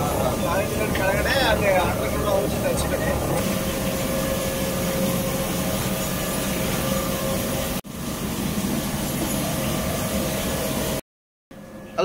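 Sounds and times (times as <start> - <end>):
mill machinery humming: 0.0 - 11.0.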